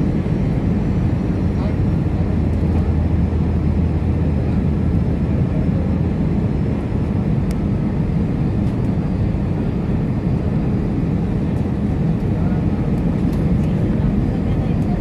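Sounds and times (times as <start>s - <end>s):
airliner engines droning: 0.0s - 15.0s.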